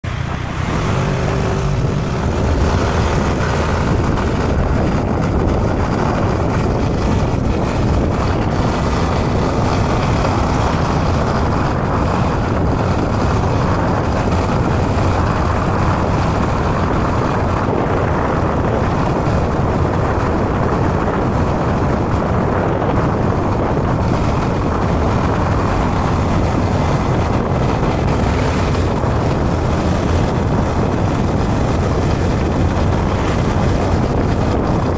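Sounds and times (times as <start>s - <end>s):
motorbike engine and road noise: 0.0s - 34.9s
wind rushing over microphone: 0.0s - 34.9s.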